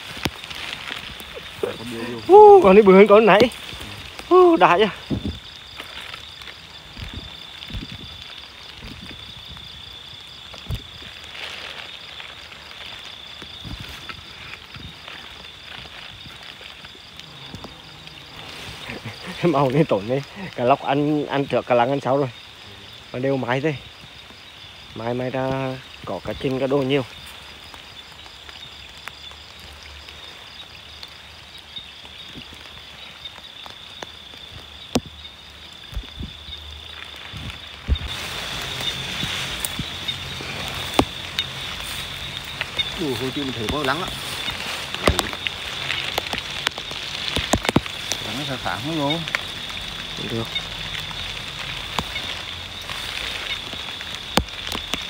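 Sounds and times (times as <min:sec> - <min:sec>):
insect chorus: 0:00.0 - 0:55.0
light rain patter: 0:00.0 - 0:55.0
rustling in undergrowth: 0:00.0 - 0:55.0.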